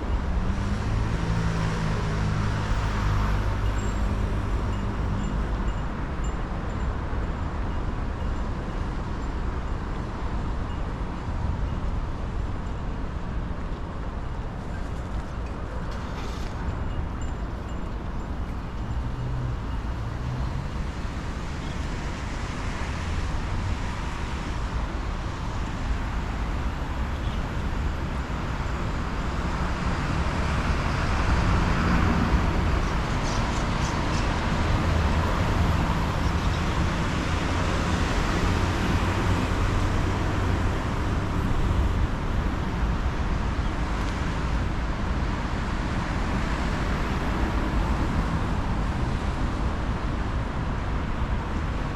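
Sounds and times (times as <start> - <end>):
city traffic rumble: 0.0 - 51.9.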